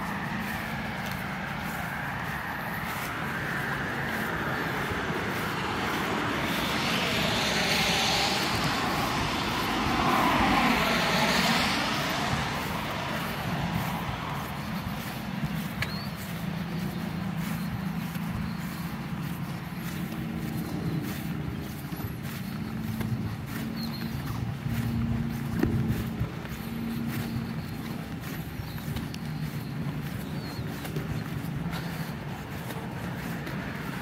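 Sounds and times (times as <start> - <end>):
vehicle passing by: 0.0 - 34.0.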